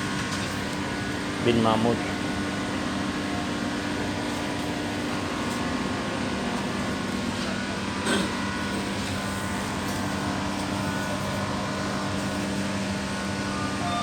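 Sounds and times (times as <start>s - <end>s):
metro train carriage hum: 0.0s - 14.0s.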